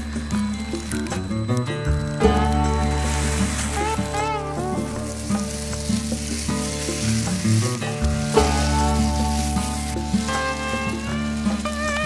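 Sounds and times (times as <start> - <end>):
crackling hiss: 0.0 - 12.0
music with sliding notes and bass: 0.0 - 12.0.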